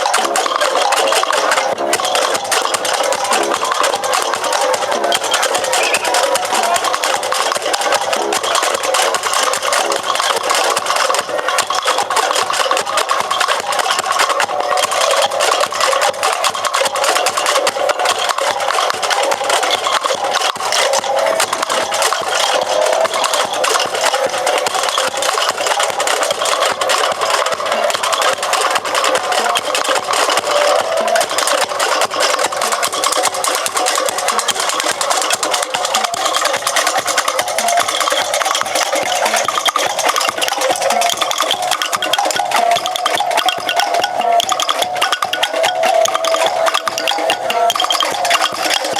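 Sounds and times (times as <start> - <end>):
percussion band playing fast rhythm: 0.0 - 48.9.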